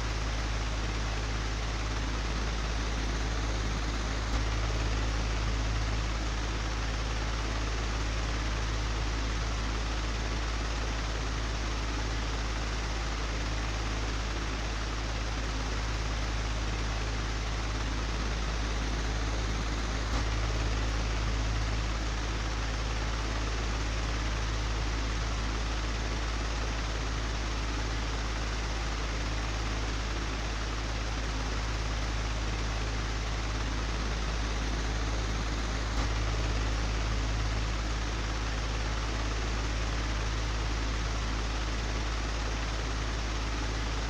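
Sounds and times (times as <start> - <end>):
low hum: 0.0 - 10.5, 15.8 - 44.0
electric fan running: 0.0 - 44.0.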